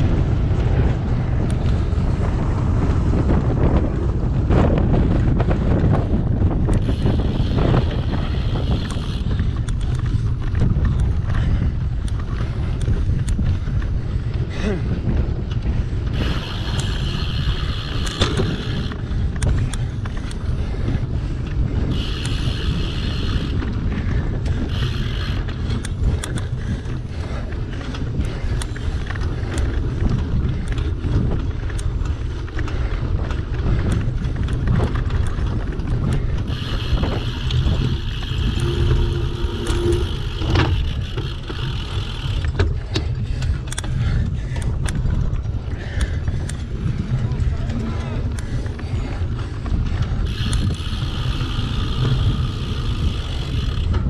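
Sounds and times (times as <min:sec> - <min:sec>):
bike rattling and clicking: 0:00.0 - 0:54.0
wind rumbling on microphone: 0:00.0 - 0:54.0.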